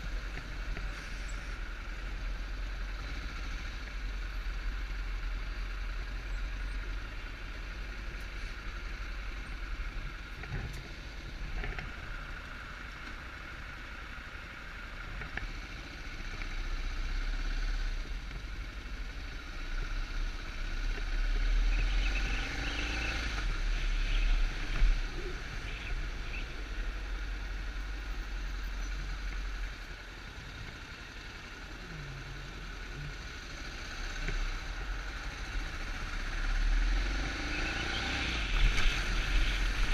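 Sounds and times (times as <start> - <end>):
motorcycle engine running: 0.0 - 39.9
traffic: 0.0 - 39.9.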